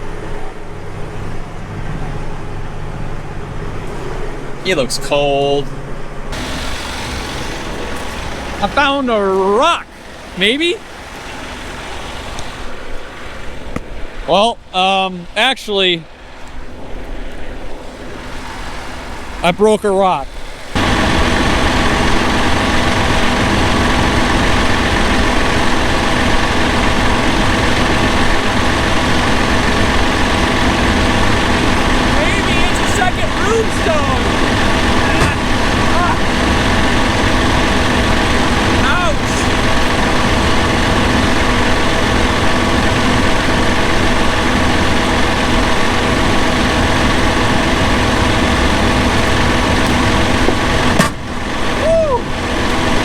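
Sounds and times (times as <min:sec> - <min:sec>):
tractor diesel engine running: 0:00.0 - 0:16.9, 0:17.7 - 0:53.0.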